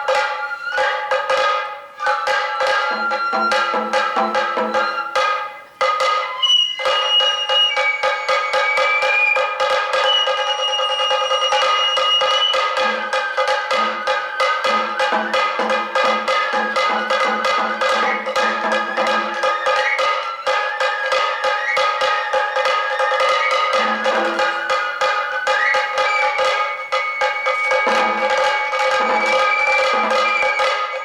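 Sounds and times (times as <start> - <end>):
fast taiko drumming: 0.0 - 31.0
high bamboo flute: 0.0 - 31.0.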